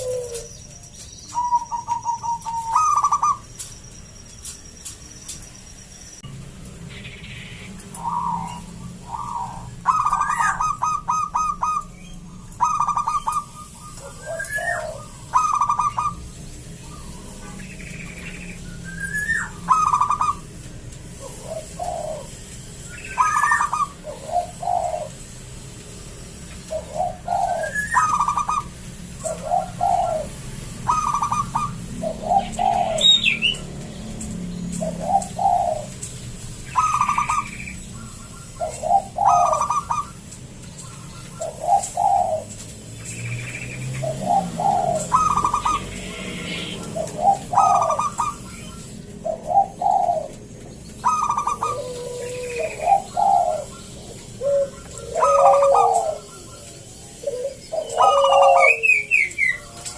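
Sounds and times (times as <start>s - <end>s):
dove cooing: 0.0s - 0.7s, 1.3s - 3.6s, 7.3s - 42.7s, 43.9s - 59.9s.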